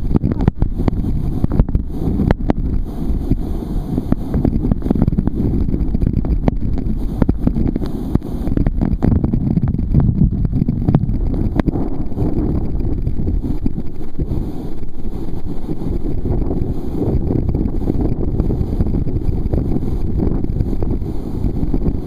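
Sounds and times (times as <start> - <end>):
spray tapping microphone: 0.0 - 22.0.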